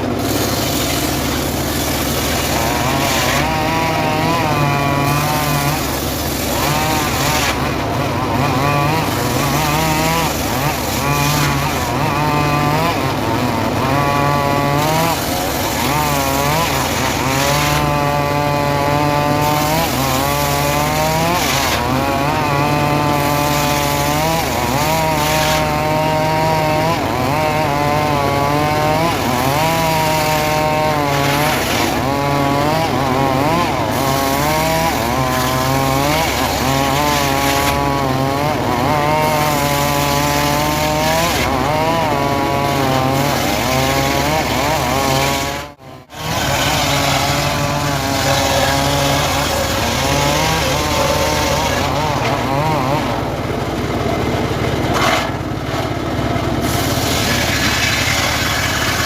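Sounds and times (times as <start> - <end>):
sawmill cutting a log: 0.0 - 59.0.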